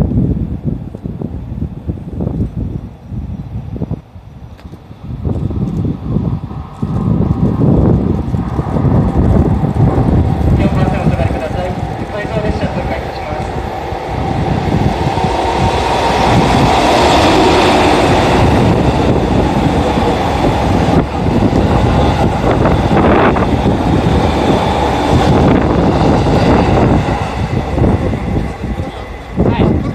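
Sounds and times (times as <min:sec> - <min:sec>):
train wheels rumbling on rails: 0:03.2 - 0:29.9.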